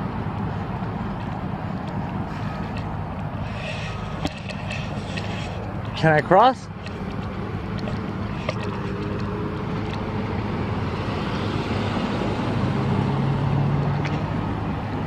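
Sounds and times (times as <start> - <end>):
tyre and road noise: 0.0 - 15.0
vehicle engine humming: 0.0 - 15.0.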